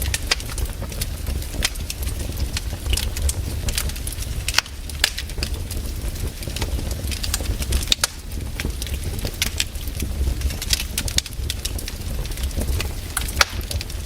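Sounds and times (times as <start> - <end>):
sharp pops and snaps: 0.0 - 14.0
wood fire crackling: 0.0 - 14.0.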